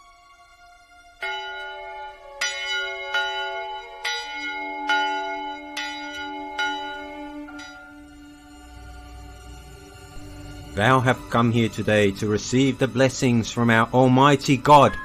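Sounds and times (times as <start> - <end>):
church bells ringing: 1.2 - 15.0.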